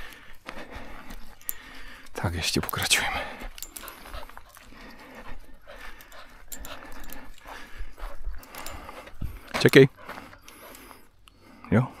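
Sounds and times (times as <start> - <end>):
footsteps on gravel: 0.0 - 6.5, 7.1 - 11.0
dog panting: 0.0 - 12.0.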